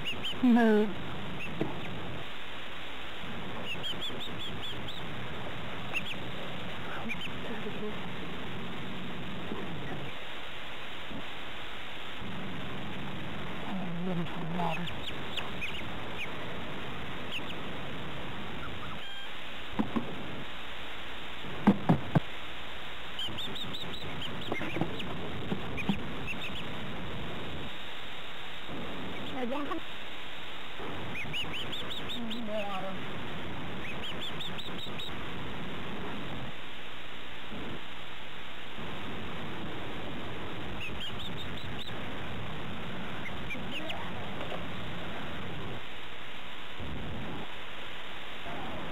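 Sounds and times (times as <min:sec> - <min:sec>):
young birds peeping: 0:00.0 - 0:20.6, 0:21.3 - 0:47.6
tape hiss: 0:00.0 - 0:48.9.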